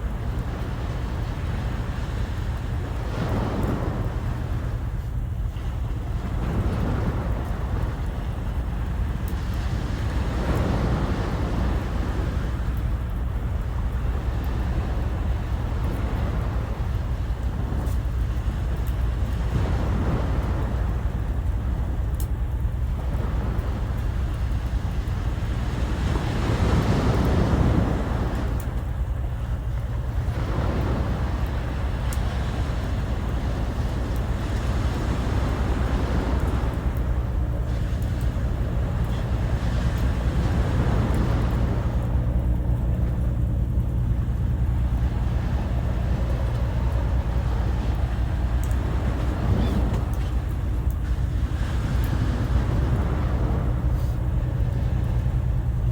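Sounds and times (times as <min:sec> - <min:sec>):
sea waves washing ashore: 0:00.0 - 0:55.9
wind buffeting microphone: 0:00.0 - 0:55.9.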